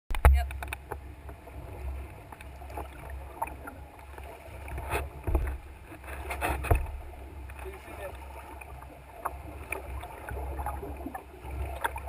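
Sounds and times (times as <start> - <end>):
small waves lapping against canoe: 0.1 - 12.0.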